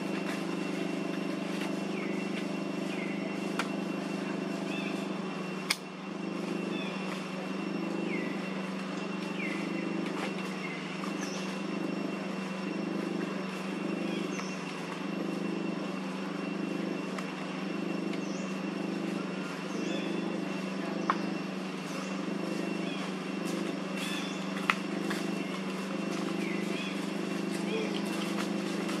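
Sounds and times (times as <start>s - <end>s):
pulsing low motor hum: 0.0s - 29.0s
birds chirping: 0.2s - 29.0s.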